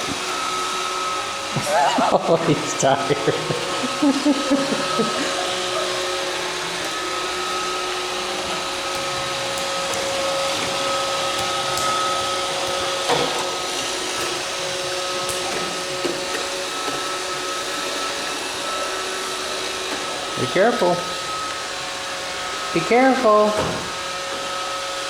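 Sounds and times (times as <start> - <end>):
robot vacuum whirring: 0.0 - 25.0.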